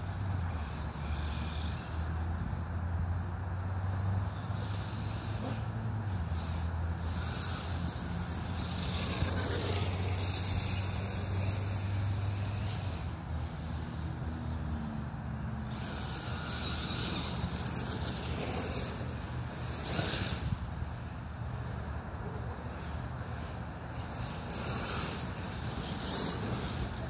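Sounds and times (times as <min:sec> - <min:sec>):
electric rc car motor whine: 0:00.0 - 0:27.0.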